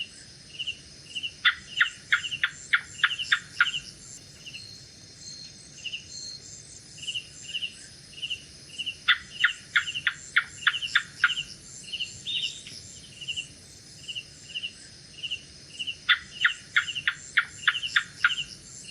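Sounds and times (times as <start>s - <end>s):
insects pulsing calls: 0.0s - 18.9s
night insect hiss: 0.0s - 18.9s.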